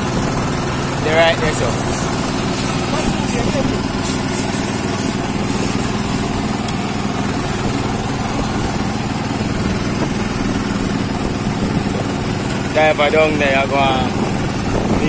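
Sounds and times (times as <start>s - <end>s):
small boat engine hum: 0.0s - 15.0s
water splashing against hull: 0.0s - 15.0s.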